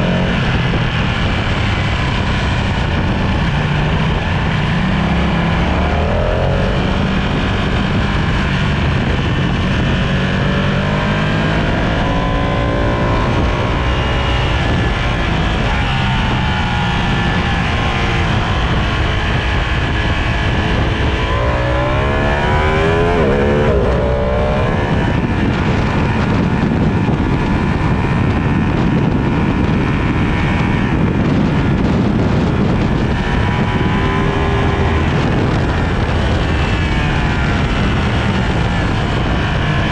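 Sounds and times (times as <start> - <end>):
loud steady rush of noise: 0.0 - 39.9
motorcycle engine accelerating: 0.0 - 39.9.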